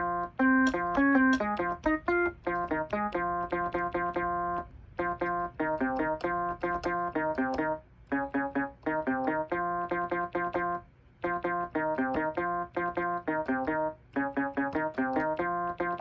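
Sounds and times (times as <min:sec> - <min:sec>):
mini keyboard playing a melody: 0:00.0 - 0:16.0.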